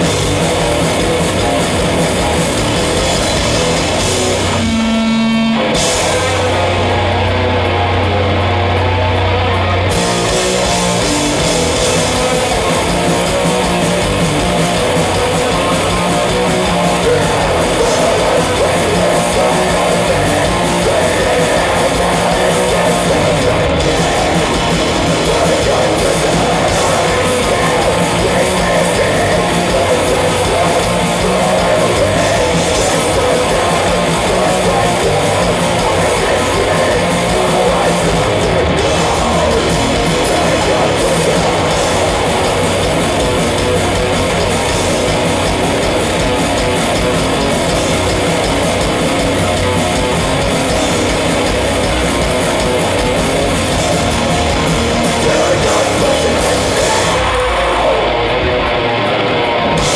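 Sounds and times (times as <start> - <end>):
bass guitar: 0.0 - 59.9
distorted electric guitars: 0.0 - 59.9
fast drums: 0.0 - 59.9.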